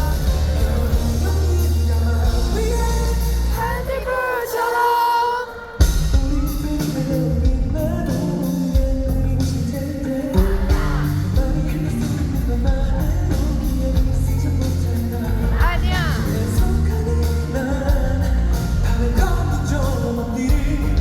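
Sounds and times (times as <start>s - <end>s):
person singing: 0.0s - 21.0s
pop-rock band playing: 0.0s - 21.0s.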